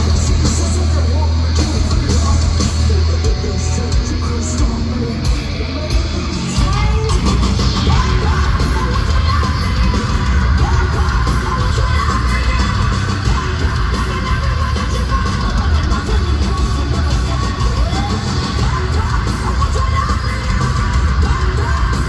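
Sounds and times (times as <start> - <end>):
heavy metal band playing live: 0.0 - 22.0.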